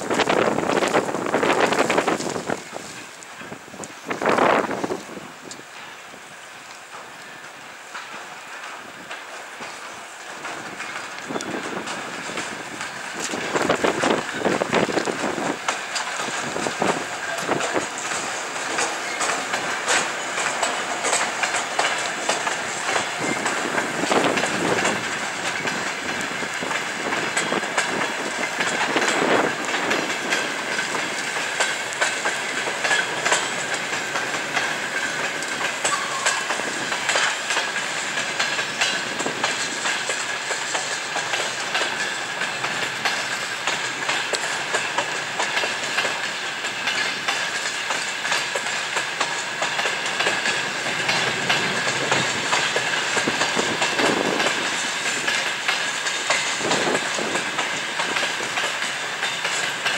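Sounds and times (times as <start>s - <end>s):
train wheels clacking over rail joints: 0.0s - 59.9s.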